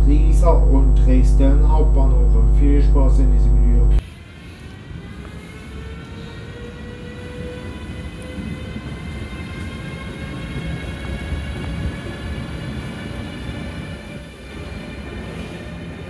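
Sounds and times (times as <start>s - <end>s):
electric locomotive whine: 0.0s - 16.0s.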